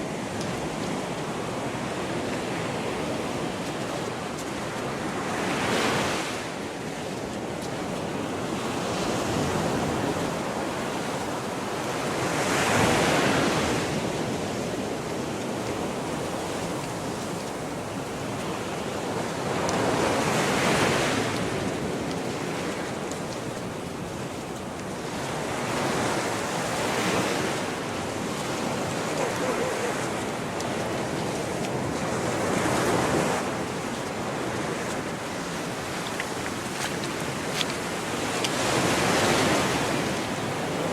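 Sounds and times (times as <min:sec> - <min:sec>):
small waves breaking on beach: 0:00.0 - 0:40.9.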